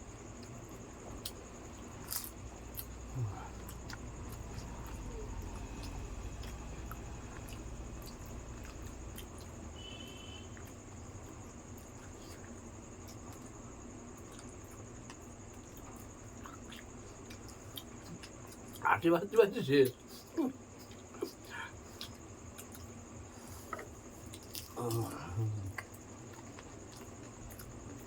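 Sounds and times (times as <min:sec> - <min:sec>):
soft wet chewing: 0:00.0 - 0:18.9, 0:19.8 - 0:28.0.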